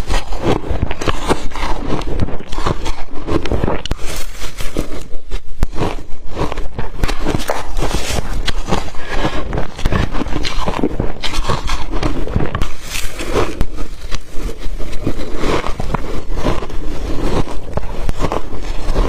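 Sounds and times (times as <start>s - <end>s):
crunching ice in mouth: 0.0s - 19.0s.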